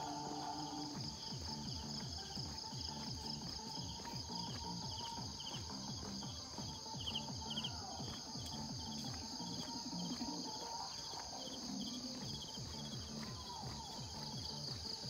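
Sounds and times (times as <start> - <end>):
insects chirping: 0.0 - 15.0
soft background music: 0.0 - 15.0.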